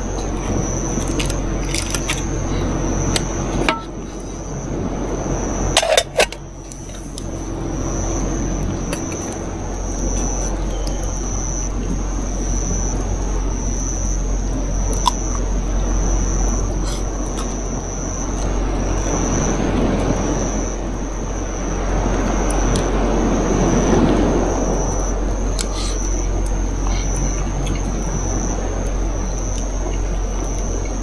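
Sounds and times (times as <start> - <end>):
rushing outdoor noise with rumble: 0.0 - 31.0.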